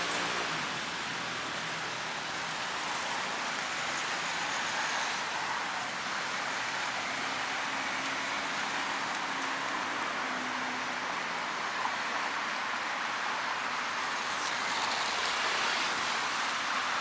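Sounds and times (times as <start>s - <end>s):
road traffic hiss: 0.0s - 17.0s.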